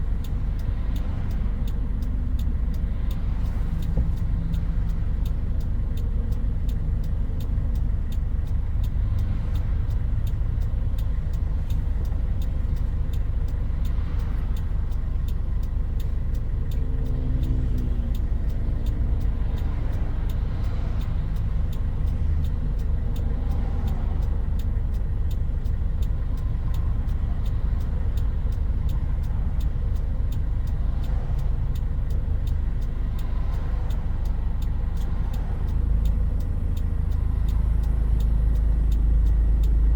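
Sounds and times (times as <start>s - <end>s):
pickup engine rumble in cabin: 0.0s - 39.9s.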